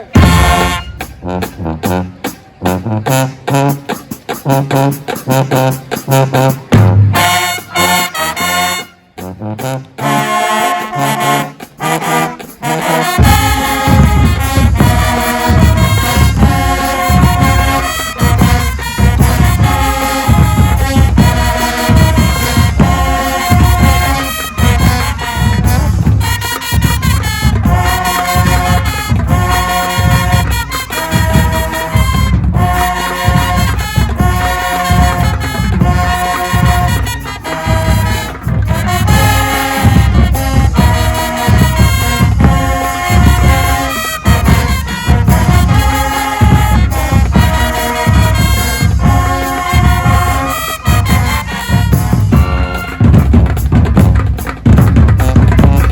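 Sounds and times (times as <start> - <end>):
band with driving beat: 0.0 - 55.9
marching band brass playing: 0.0 - 55.9.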